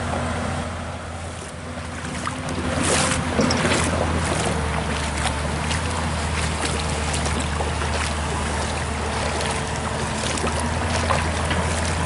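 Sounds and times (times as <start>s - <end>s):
excavator diesel engine humming: 0.0s - 12.0s
water trickling across stones: 1.4s - 12.0s.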